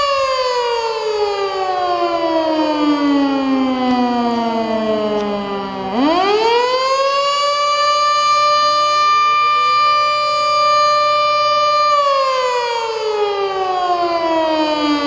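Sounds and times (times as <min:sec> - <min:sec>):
fainter second siren: 0:00.0 - 0:15.0
fire siren winding: 0:00.0 - 0:15.0.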